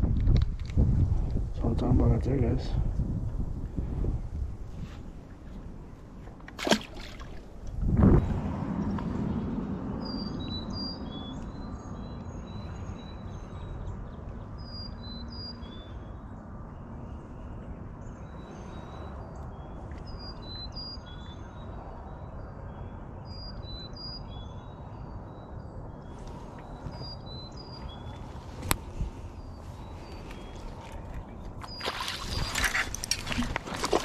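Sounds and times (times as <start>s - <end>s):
songbirds chirping: 1.1s - 34.0s.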